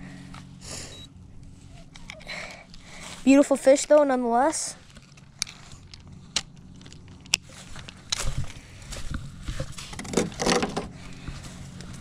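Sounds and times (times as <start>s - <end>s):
dry reeds rustling and crunching: 1.4s - 12.0s.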